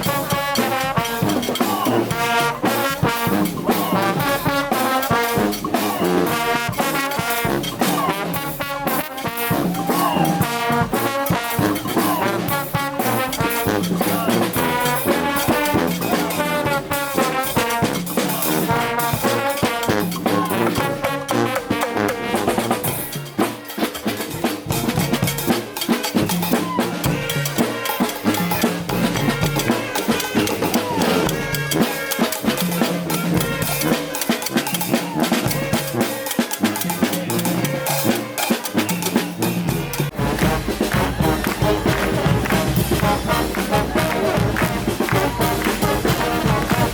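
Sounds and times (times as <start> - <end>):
drums with steady beat: 0.0 - 46.9
trombones and trumpets: 0.0 - 46.9.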